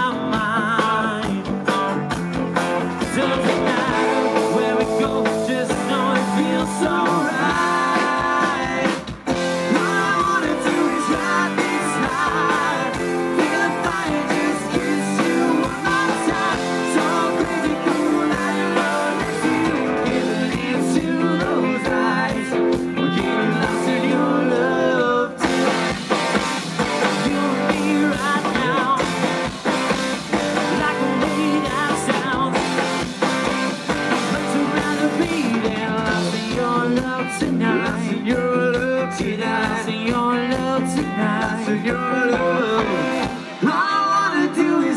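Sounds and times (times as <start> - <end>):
live country rock band: 0.0 - 44.9.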